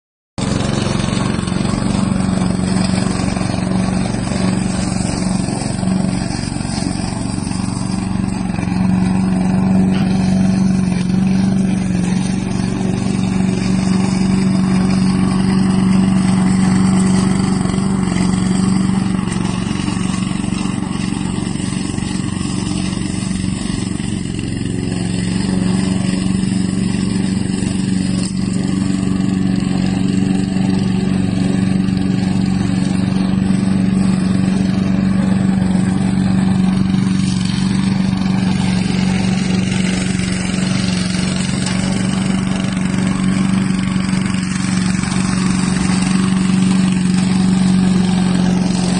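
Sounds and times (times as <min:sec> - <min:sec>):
lawn mower engine running: 0:00.4 - 0:48.9.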